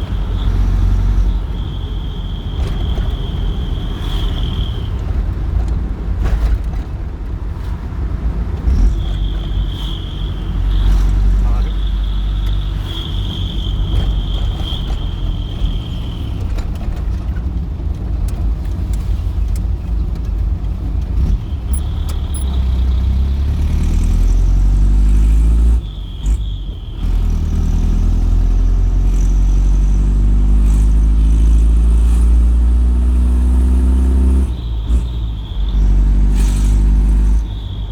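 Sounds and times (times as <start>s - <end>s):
diesel truck engine revving: 0.0s - 6.8s, 8.0s - 17.2s, 20.3s - 37.9s.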